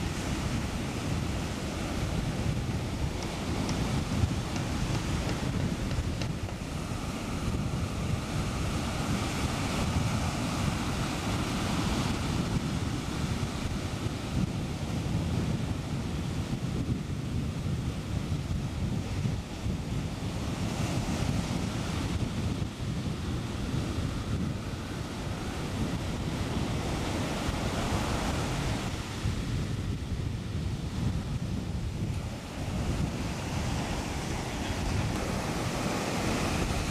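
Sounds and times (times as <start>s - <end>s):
surf breaking on beach: 0.0s - 36.9s
wind buffeting microphone: 0.0s - 36.9s.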